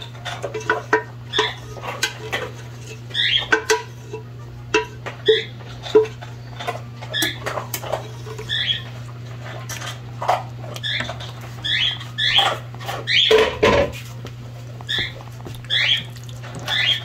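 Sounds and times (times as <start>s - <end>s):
wooden spoon scraping casserole mixture: 0.0s - 17.0s.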